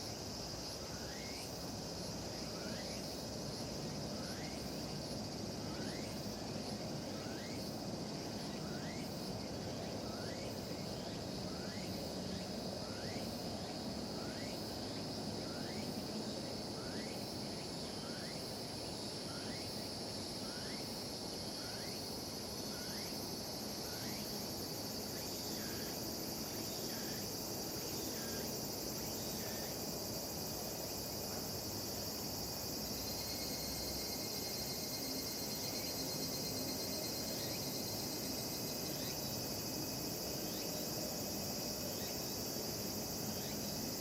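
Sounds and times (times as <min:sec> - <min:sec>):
cicadas droning: 0:00.0 - 0:44.0
low background hiss: 0:00.0 - 0:44.0.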